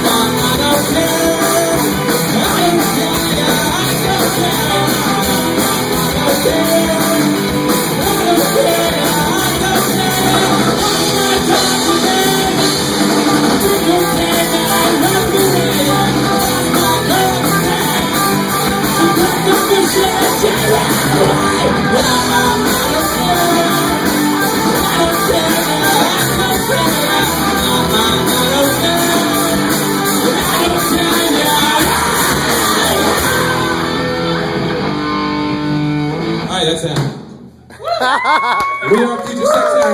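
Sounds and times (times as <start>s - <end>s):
person singing or shouting: 0.0s - 34.0s
rock band playing: 0.0s - 38.9s.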